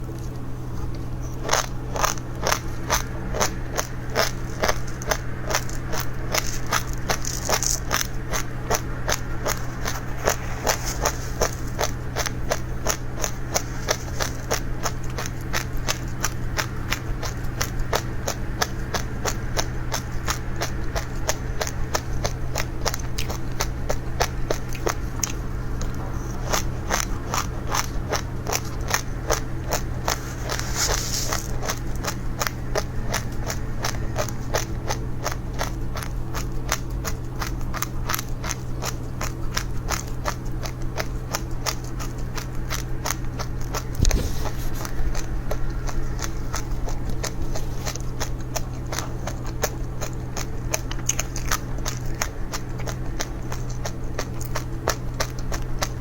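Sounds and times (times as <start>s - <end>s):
seeds crunching: 0.0s - 56.0s
steady low hum: 0.0s - 56.0s.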